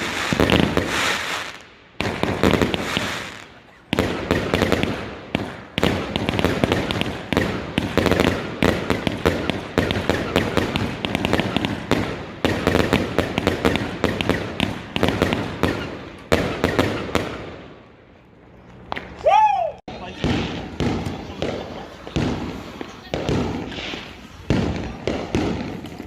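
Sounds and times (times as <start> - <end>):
fireworks bangs and crackles: 0.0 - 18.0, 19.9 - 26.0.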